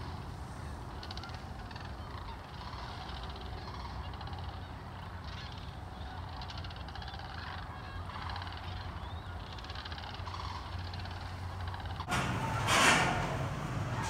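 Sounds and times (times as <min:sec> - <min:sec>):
cranes calling: 0:00.0 - 0:14.0.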